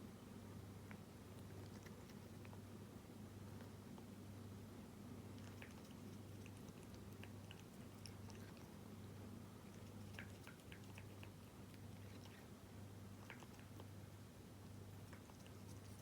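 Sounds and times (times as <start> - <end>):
steady low hum: 0.0 - 16.0
cat chewing wet food: 0.8 - 4.3, 5.2 - 16.0.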